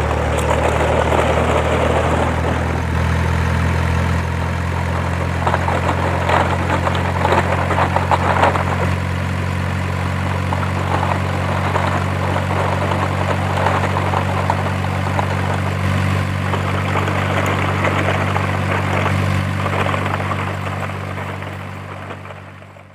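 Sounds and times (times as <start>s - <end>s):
light clattering: 0.0s - 3.2s, 4.1s - 22.9s
heavy engine idling drone: 0.0s - 22.9s.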